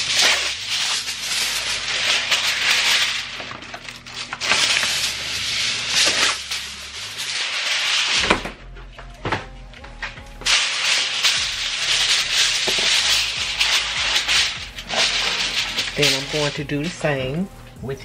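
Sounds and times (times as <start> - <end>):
aluminum foil crackling: 0.0 - 8.7, 9.8 - 18.0.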